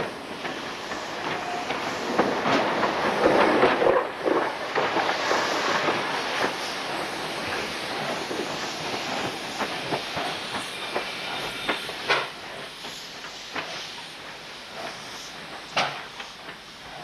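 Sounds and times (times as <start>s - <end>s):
train rushing on rails: 0.0s - 17.0s.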